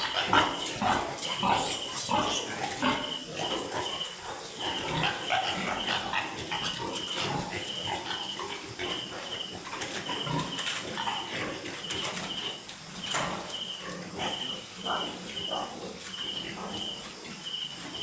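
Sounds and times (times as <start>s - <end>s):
piglets grunting and squealing: 0.0s - 18.0s.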